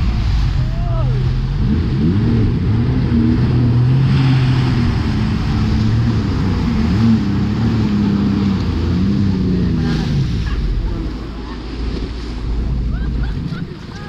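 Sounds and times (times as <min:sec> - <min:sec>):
jet ski engine running: 0:00.0 - 0:14.0
water and wind rushing: 0:00.0 - 0:14.0.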